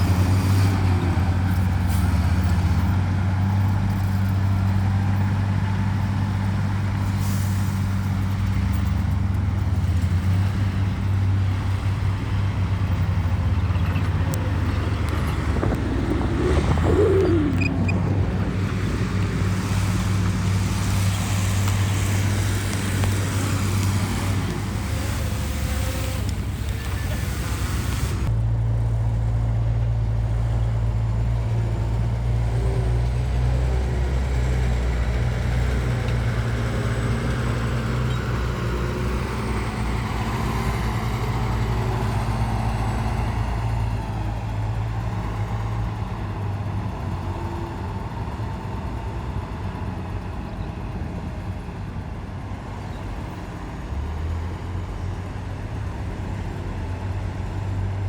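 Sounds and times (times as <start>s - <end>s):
diesel earthmoving machinery engine: 0.0s - 58.0s.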